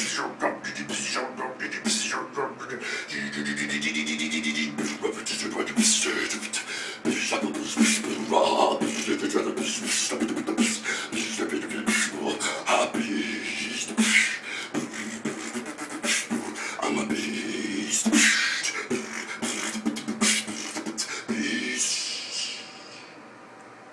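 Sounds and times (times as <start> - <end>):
man beatboxing: 0.0 - 23.0.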